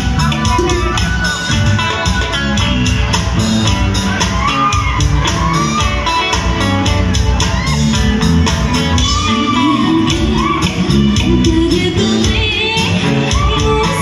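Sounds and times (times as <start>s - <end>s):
audience shouting: 0.0s - 11.3s
live rock band playing: 0.0s - 14.0s.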